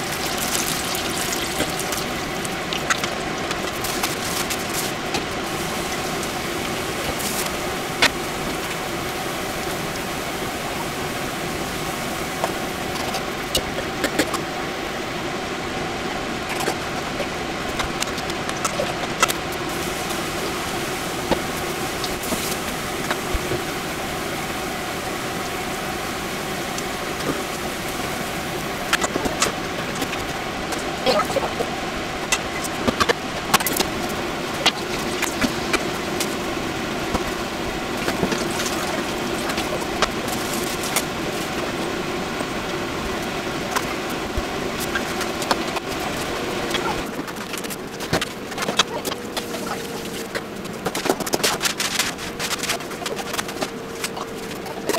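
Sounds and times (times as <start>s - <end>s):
food deep-frying in oil: 0.0s - 14.7s, 16.3s - 54.9s.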